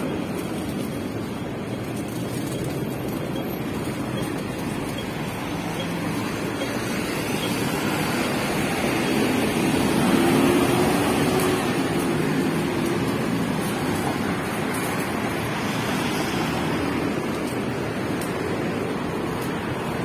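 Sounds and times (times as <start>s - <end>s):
minibus engine passing: 0.0s - 20.0s
road traffic rush: 0.0s - 20.0s.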